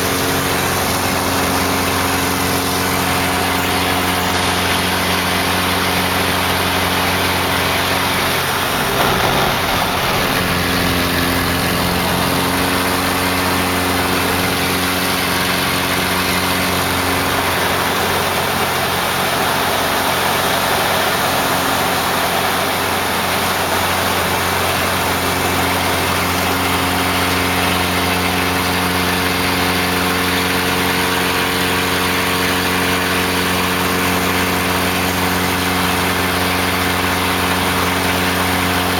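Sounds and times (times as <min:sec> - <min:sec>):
propeller plane engine: 0:00.0 - 0:38.9.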